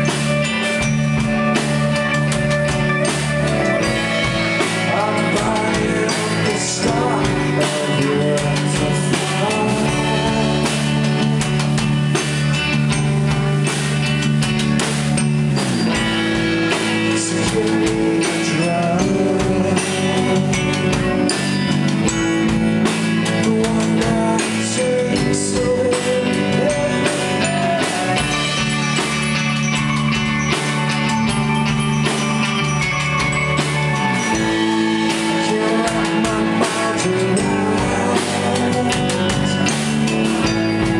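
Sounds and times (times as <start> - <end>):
held bass notes: 0.0 - 40.9
live rock band playing: 0.0 - 40.9.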